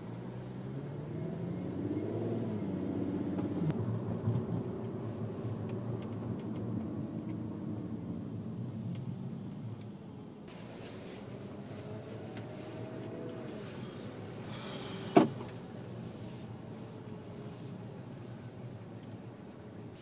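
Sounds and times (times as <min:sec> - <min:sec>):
car engine accelerating: 0:00.0 - 0:08.4, 0:10.5 - 0:18.8
road noise: 0:00.0 - 0:20.0.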